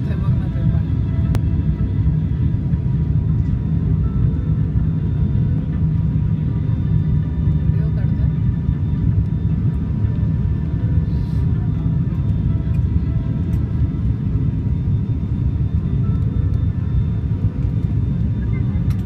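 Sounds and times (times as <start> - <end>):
airplane cabin rumble: 0.0 - 19.0
propeller and engine whine: 0.0 - 19.0.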